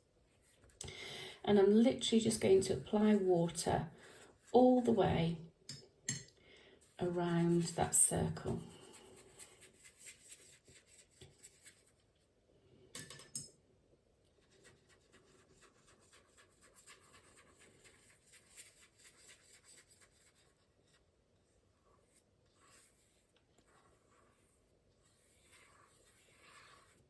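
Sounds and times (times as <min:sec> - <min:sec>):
paintbrush strokes on paper: 0:01.7 - 0:05.3, 0:06.8 - 0:12.2, 0:14.3 - 0:27.0.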